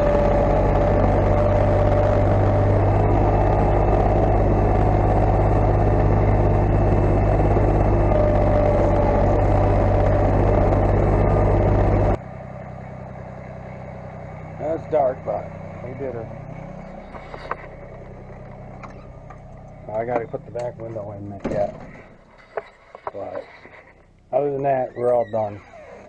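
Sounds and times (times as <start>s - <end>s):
farm machine engine drone: 0.0s - 26.0s.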